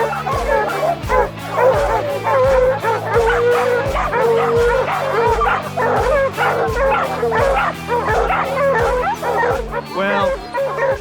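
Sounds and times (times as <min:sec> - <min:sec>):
background music with steady beat: 0:00.0 - 0:11.0
hounds baying and yipping: 0:00.0 - 0:11.0.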